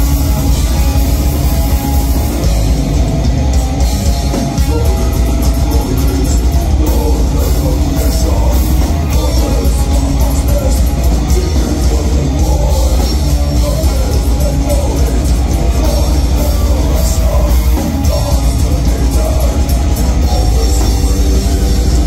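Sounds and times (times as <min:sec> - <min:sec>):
bass guitar: 0:00.0 - 0:22.0
distorted electric guitars: 0:00.0 - 0:22.0
drums: 0:00.0 - 0:22.0.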